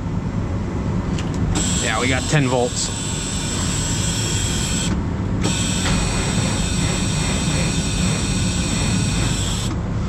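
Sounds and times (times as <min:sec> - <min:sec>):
machine humming: 0:01.6 - 0:09.8.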